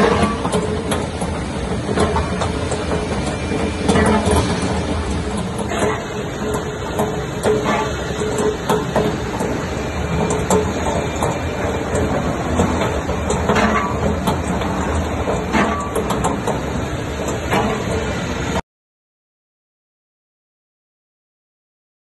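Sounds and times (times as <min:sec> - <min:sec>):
sharp clicks and knocks: 0:00.0 - 0:18.2.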